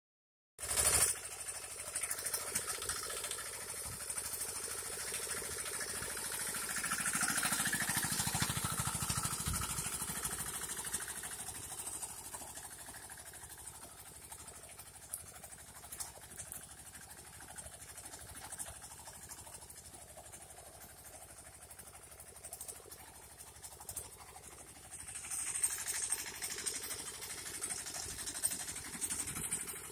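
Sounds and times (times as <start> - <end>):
tractor engine chugging: 0.6 - 29.9.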